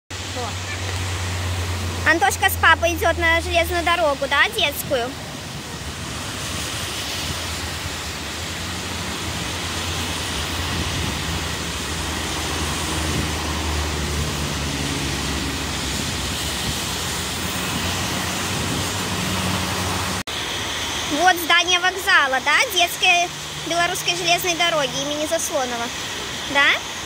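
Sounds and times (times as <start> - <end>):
road traffic rumble and hiss: 0.1 - 27.0
heavy engine hum: 0.2 - 26.8.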